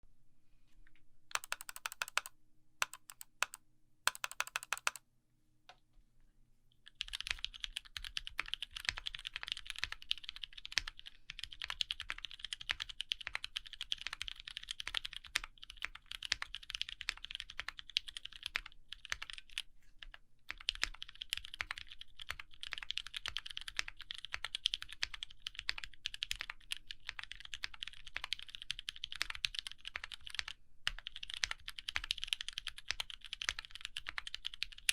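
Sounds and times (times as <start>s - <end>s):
mechanical keyboard typing: 1.3s - 5.0s, 6.8s - 34.9s.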